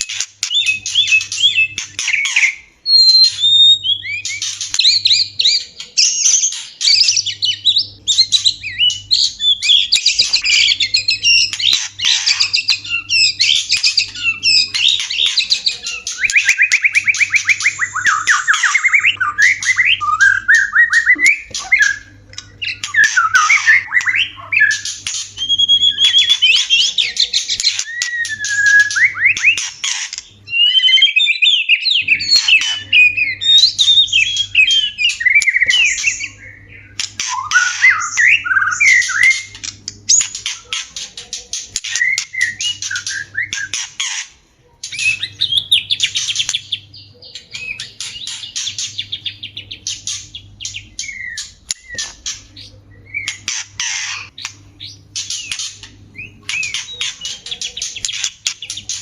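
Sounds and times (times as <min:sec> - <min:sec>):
bird harsh chattering and whistles: 0:00.0 - 0:59.0.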